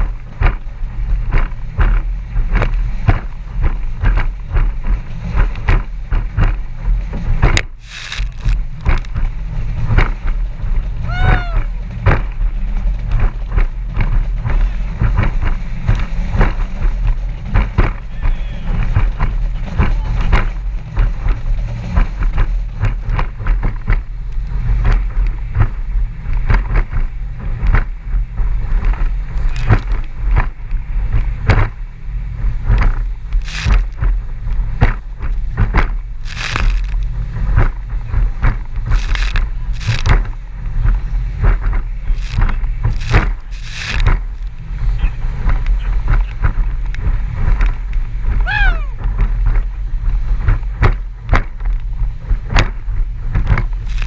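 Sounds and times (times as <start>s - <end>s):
boat motor drone: 0.0s - 54.0s
hull slamming on waves: 0.0s - 54.0s.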